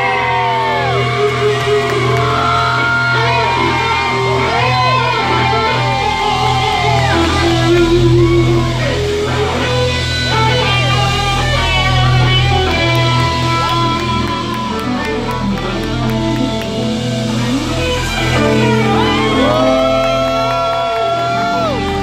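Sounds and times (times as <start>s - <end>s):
deep bass: 0.0s - 22.0s
electric guitar: 0.0s - 22.0s
keyboards: 0.0s - 22.0s.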